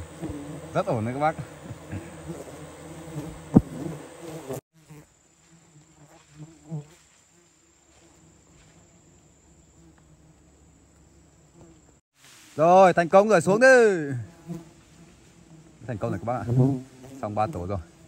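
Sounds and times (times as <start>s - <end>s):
bees buzzing: 0.0s - 12.0s, 14.0s - 18.0s.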